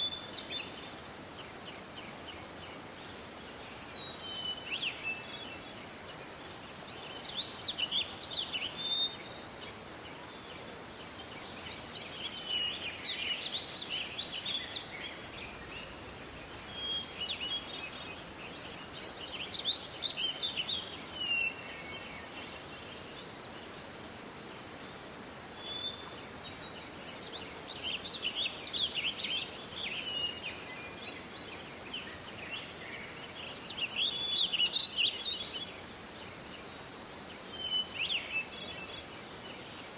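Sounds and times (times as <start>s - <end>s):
songbird chirping and trilling: 0.0s - 39.9s
steady outdoor hiss: 0.0s - 39.9s.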